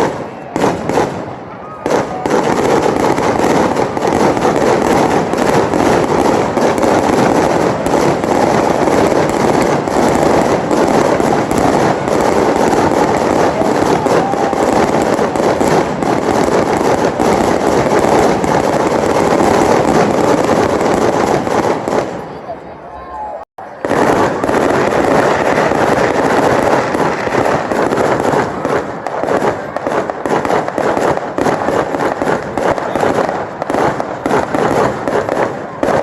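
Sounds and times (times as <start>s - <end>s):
fireworks crackling: 0.0s - 22.7s, 23.6s - 36.0s.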